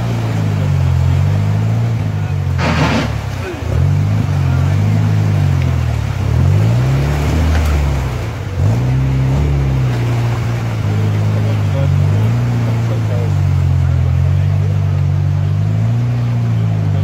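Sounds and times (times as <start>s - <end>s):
buggy engine revving: 0.0s - 17.0s
water churning and splashing: 0.0s - 17.0s.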